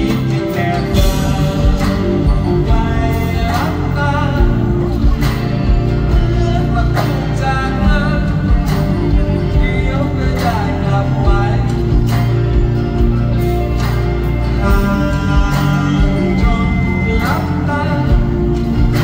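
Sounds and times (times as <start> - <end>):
man singing: 0.0 - 13.2, 14.4 - 19.0
band playing: 0.0 - 19.0.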